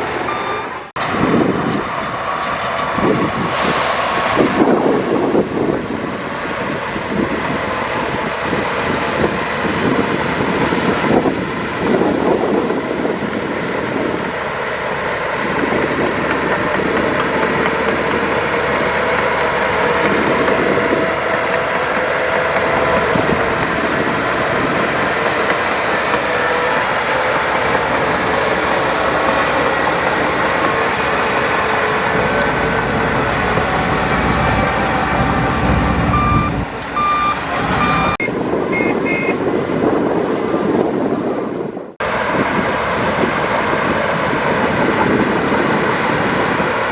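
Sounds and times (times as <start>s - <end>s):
heavy diesel machinery running: 0.0s - 46.9s.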